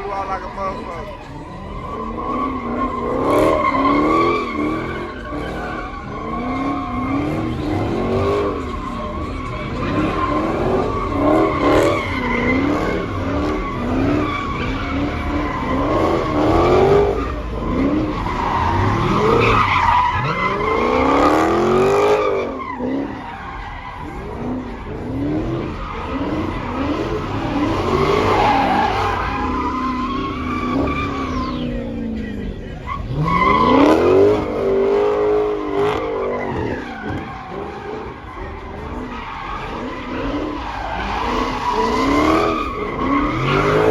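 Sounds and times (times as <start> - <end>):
car engine revving: 0.0 - 43.9
car tires squealing: 0.0 - 43.9.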